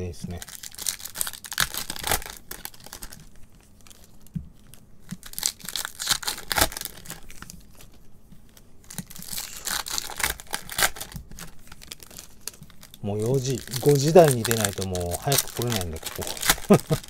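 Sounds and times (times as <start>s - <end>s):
foil wrappers crinkling and tearing: 0.2s - 17.0s.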